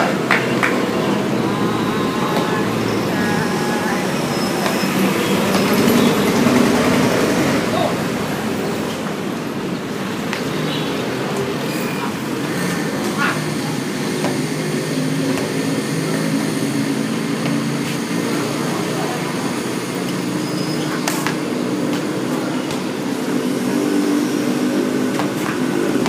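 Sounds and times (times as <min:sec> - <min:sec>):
engine-like drone: 0:00.0 - 0:26.0.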